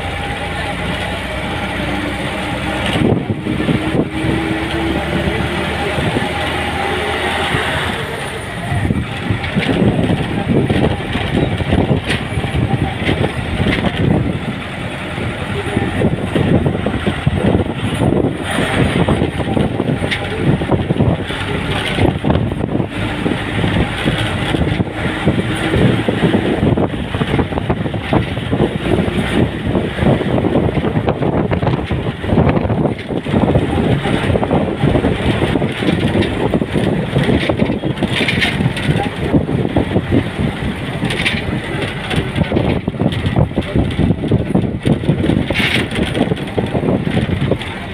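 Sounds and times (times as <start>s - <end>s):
engine and road noise: 0.0s - 47.9s
wind buffeting microphone: 0.0s - 47.9s.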